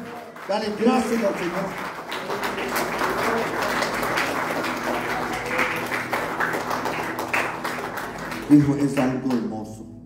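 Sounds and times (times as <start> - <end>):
crowd clapping: 0.0 - 9.8.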